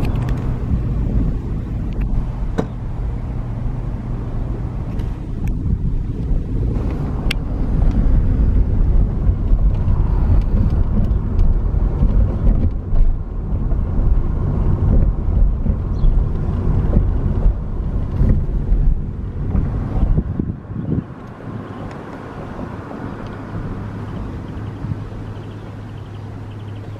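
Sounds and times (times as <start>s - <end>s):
low rumble of moving car: 0.0s - 26.9s.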